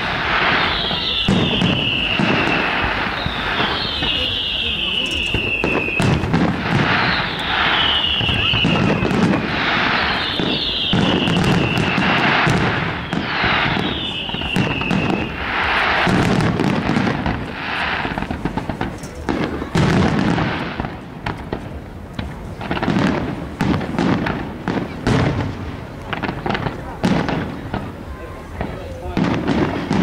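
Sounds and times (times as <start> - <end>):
firework shells bursting: 0.0 - 25.5
falling firework whistles: 0.0 - 30.0
firework crackling: 0.0 - 30.0.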